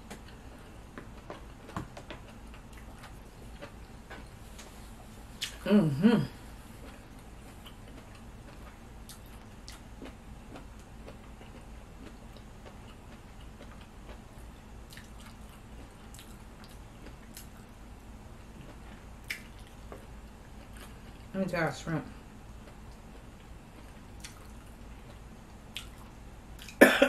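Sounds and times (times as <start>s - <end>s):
faint chewing: 0.0s - 5.7s, 6.3s - 17.8s, 18.4s - 21.3s, 22.5s - 26.8s
low steady hum: 0.0s - 27.0s.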